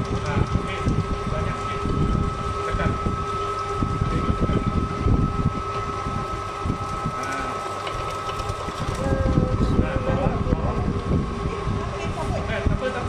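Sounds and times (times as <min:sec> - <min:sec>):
slicing machine motor whine: 0:00.0 - 0:13.0.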